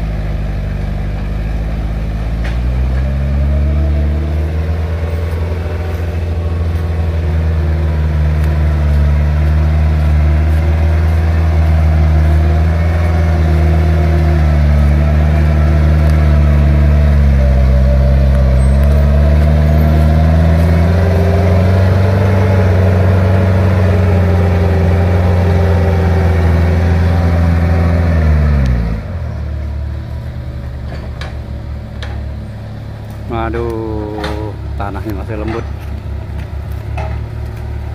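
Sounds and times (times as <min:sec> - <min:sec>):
heavy diesel engine under load: 0:00.0 - 0:37.9.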